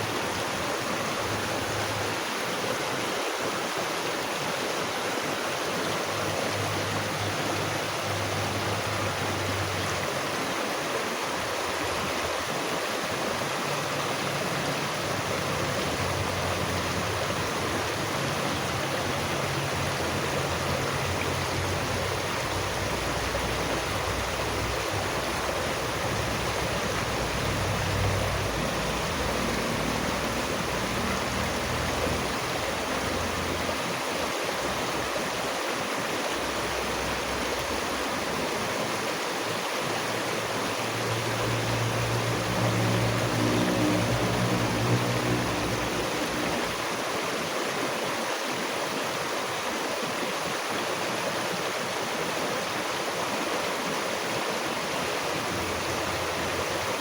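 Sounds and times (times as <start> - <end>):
water flowing over rocks: 0.0 - 57.0.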